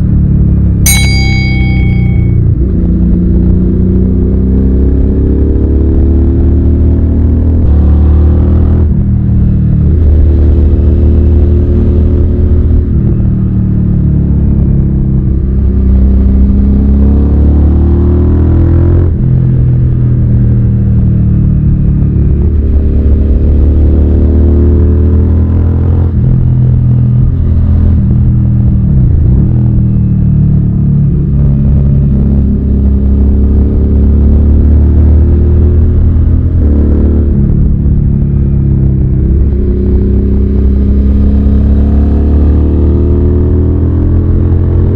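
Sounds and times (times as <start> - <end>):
motorcycle engine revving through gears: 2.8 - 44.9.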